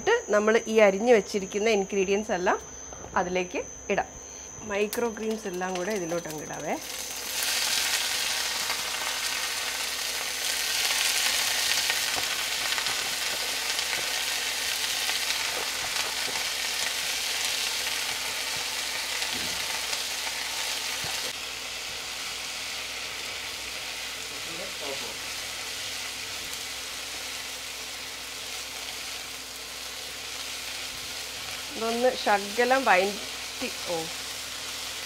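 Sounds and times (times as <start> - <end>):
greens sizzling in oil: 4.3 - 35.0.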